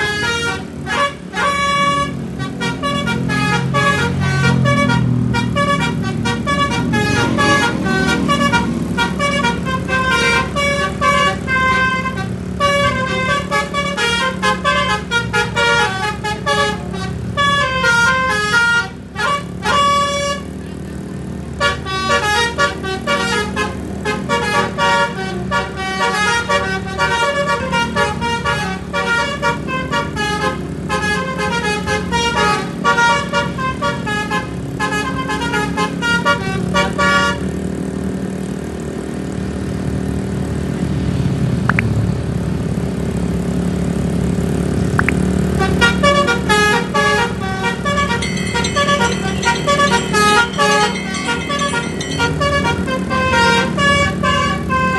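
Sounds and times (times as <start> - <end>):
musical air horn melody: 0.0 - 20.5, 21.6 - 37.4, 45.0 - 54.9
bus engine humming: 0.0 - 54.9.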